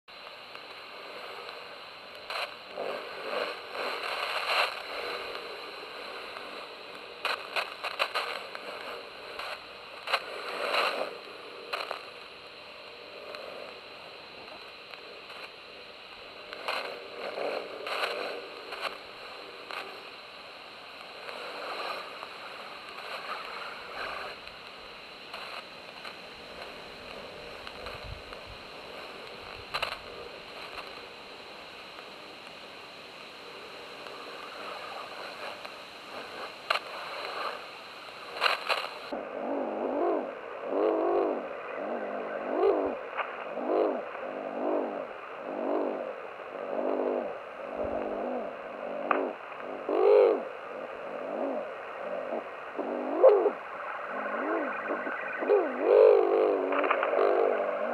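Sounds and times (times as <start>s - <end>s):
radio jamming noise: 0.1s - 39.2s, 41.4s - 44.2s, 50.5s - 57.9s.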